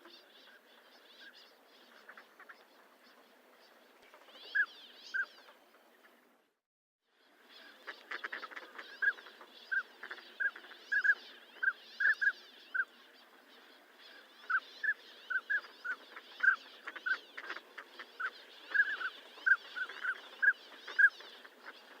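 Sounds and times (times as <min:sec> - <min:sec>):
background bird calling: 0:00.0 - 0:22.0.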